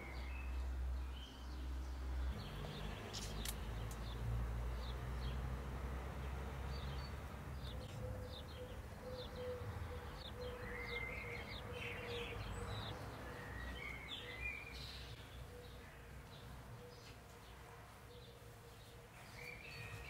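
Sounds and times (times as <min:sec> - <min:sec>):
small birds chirping: 0:00.0 - 0:05.6, 0:06.2 - 0:20.0.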